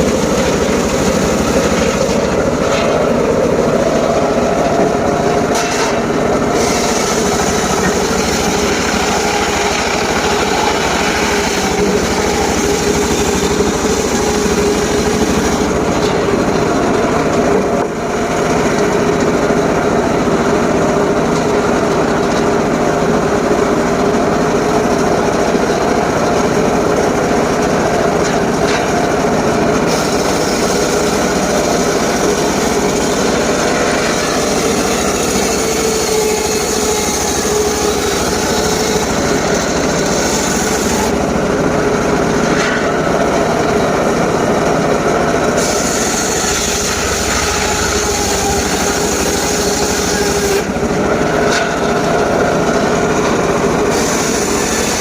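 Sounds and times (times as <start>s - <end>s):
circular saw cutting log: 0.0s - 55.0s
sawmill engine running: 0.0s - 55.0s.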